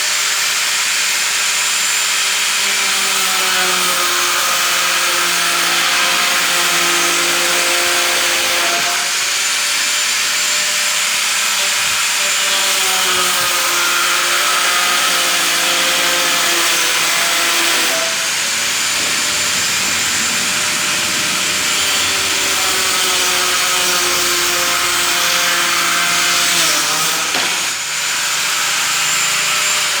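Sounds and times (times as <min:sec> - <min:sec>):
power tool motor running: 0:00.3 - 0:30.0.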